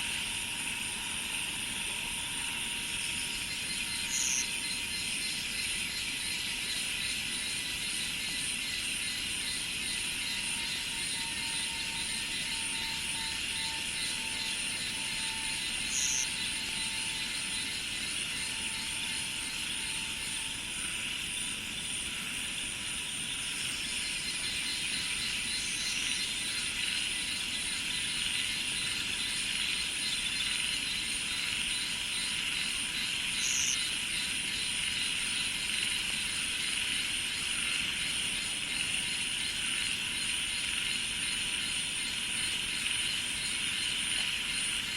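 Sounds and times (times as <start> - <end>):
cicadas and insects chorus: 0.0 - 44.9.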